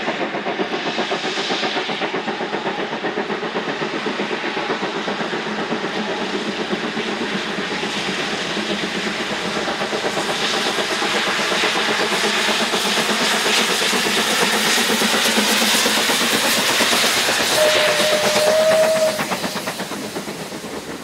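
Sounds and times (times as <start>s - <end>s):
steam locomotive exhaust chuffing: 0.0s - 21.0s.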